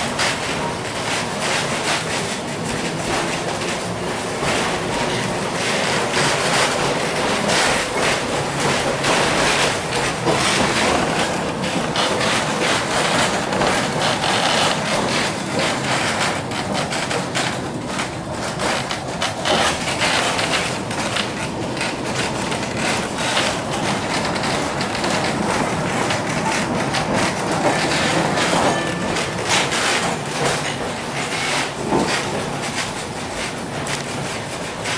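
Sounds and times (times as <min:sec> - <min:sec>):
streetcar wheels rumbling on rails: 0:00.0 - 0:34.9
clicking and rattling: 0:00.2 - 0:34.9.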